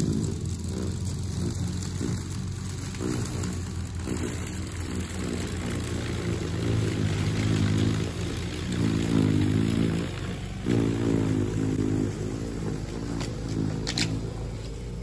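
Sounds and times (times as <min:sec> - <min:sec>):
snowblower motor drone: 0:00.0 - 0:15.0.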